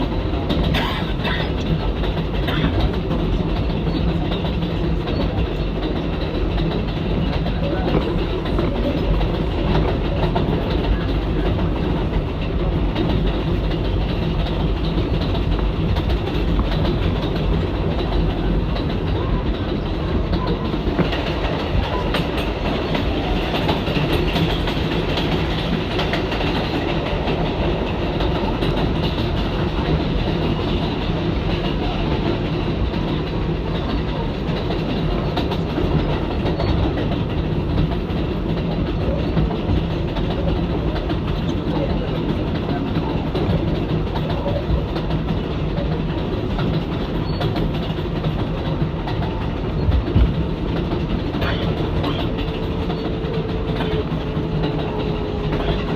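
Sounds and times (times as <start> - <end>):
subway train running noise: 0.0 - 55.9
wheels clicking over rail joints: 0.0 - 55.9.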